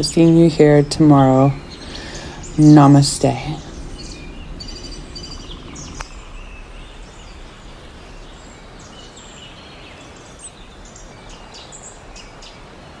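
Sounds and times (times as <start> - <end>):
small birds chirping: 0.0 - 13.0
steady low background noise: 0.0 - 13.0.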